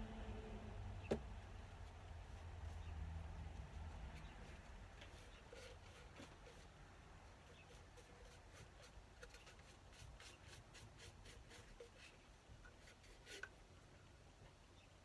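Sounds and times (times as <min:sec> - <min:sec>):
paintbrush brushing: 0:01.2 - 0:13.6.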